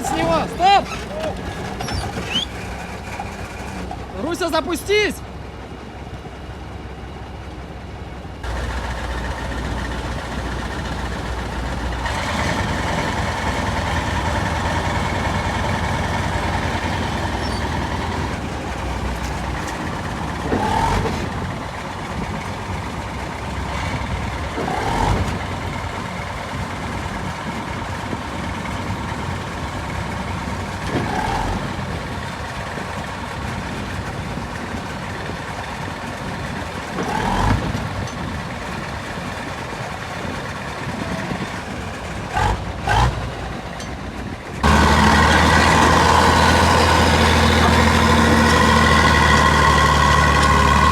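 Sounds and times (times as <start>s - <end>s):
engine running: 0.0s - 50.9s.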